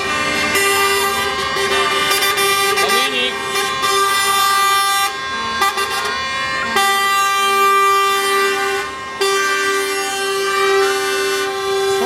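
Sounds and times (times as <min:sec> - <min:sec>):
truck air horns blasting: 0:00.0 - 0:12.0.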